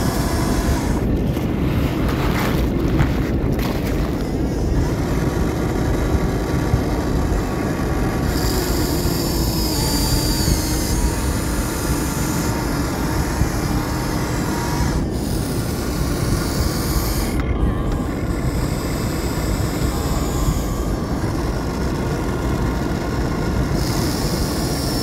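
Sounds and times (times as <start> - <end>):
toy motors and gears whining: 0.0 - 1.5, 3.4 - 25.0
higher motor whine: 0.0 - 25.0.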